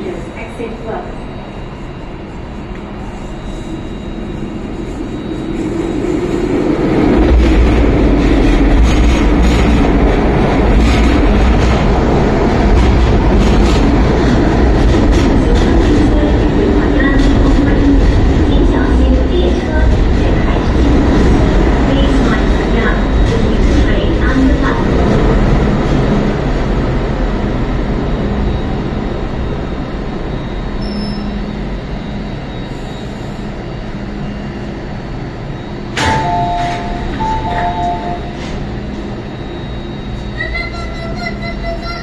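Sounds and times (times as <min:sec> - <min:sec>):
train rumbling past: 0:00.0 - 0:42.0.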